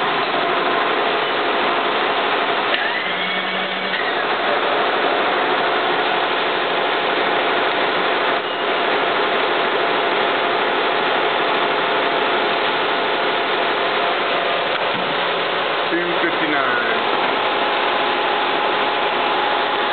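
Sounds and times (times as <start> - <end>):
milling machine cutting metal: 0.0 - 9.4, 13.0 - 19.9
coolant mist hiss: 4.0 - 19.9.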